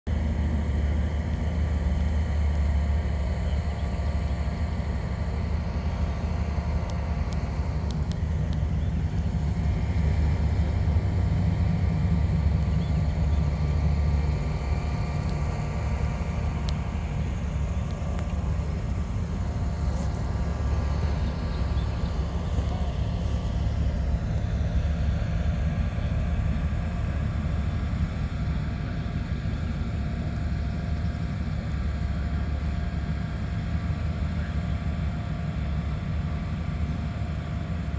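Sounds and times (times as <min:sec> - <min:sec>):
car engine rumble passing: 0:00.1 - 0:37.0.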